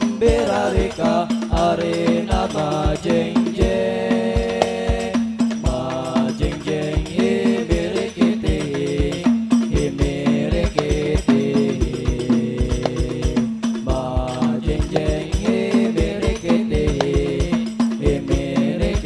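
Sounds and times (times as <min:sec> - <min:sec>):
frame drums beating: 0:00.0 - 0:19.0
men singing: 0:00.0 - 0:19.0.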